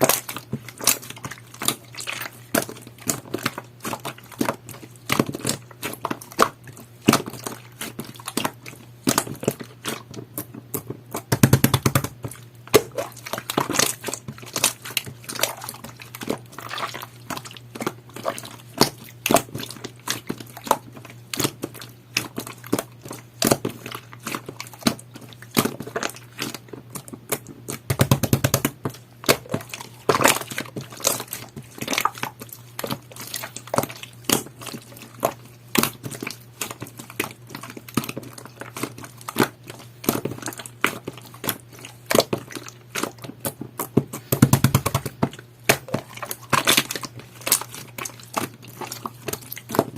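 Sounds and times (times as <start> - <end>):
slime squishing with sticky clicks: 0.0 - 49.9.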